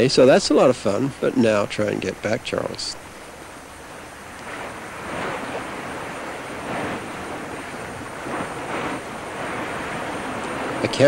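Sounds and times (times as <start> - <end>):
rushing sea: 0.0 - 11.0
wind: 0.0 - 11.0.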